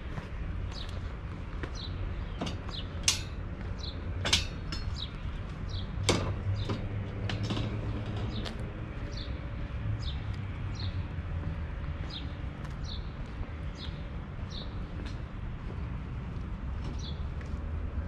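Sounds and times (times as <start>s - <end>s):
steady low rumble: 0.0s - 18.0s
small birds chirping: 0.2s - 7.0s, 8.2s - 15.2s, 16.9s - 17.6s.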